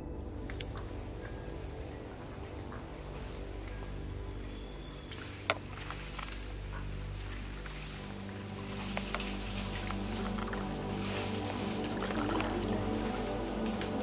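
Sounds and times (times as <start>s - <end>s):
insects droning: 0.0s - 14.0s
soft background music: 0.0s - 14.0s.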